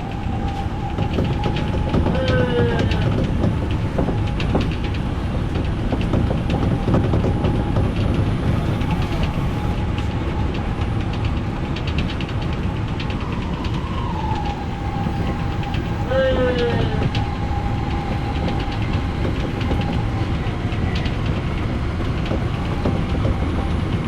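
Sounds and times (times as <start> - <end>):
rail clicks: 0.0 - 24.0
train wheels rumbling on track: 0.0 - 24.0.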